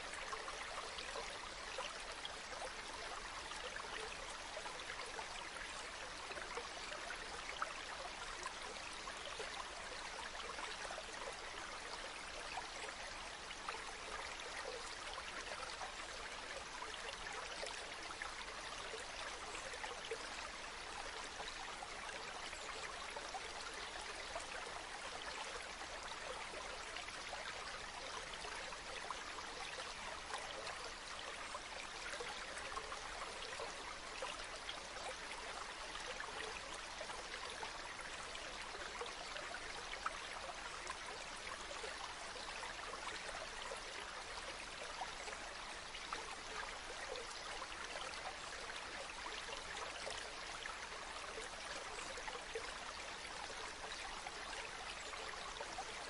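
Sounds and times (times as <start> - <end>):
water splashes and trickles: 0.0 - 56.0.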